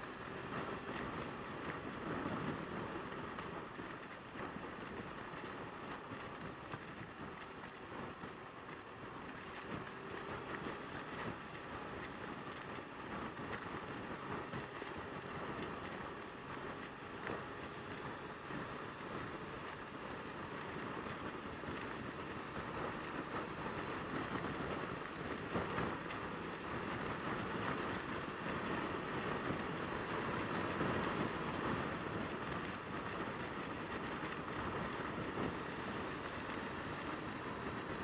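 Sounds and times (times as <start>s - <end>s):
motorcycle engine at speed: 0.0s - 38.0s.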